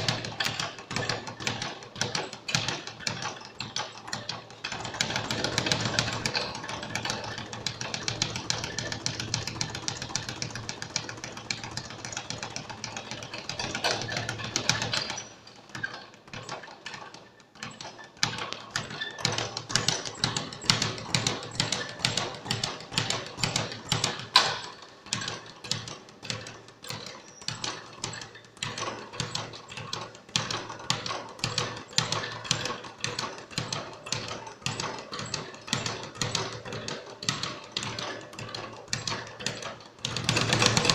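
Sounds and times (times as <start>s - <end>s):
speed bag rattling: 0.0s - 40.9s.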